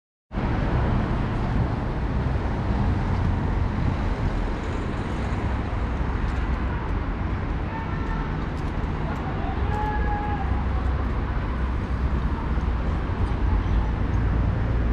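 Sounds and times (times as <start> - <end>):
traffic rumble: 0.3 - 14.9.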